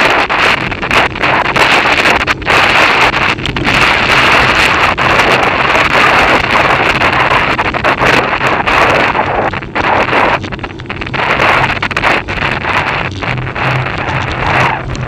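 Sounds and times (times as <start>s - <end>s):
wind rushing on microphone: 0.0s - 15.0s.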